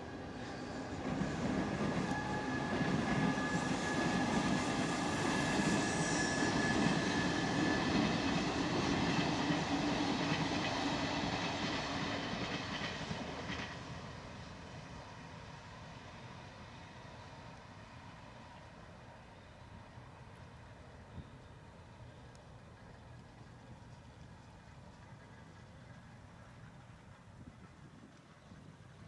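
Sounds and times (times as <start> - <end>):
train wheels rumbling on rails: 0.0 - 18.6, 22.1 - 29.0.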